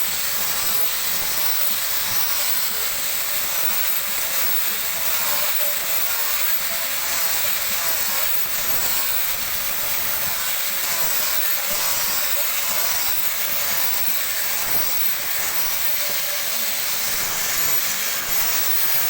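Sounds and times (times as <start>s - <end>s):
power tool grinding: 0.0s - 19.0s.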